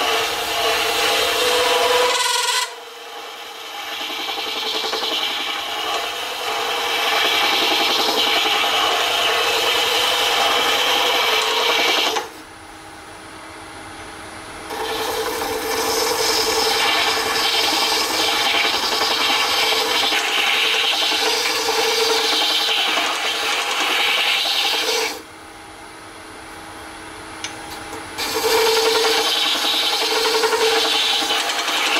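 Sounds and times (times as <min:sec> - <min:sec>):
lathe tool rasping scrape: 0:00.0 - 0:12.3, 0:14.7 - 0:25.2, 0:28.2 - 0:31.9
lathe running hum: 0:00.0 - 0:12.4, 0:14.7 - 0:25.3, 0:27.4 - 0:31.9.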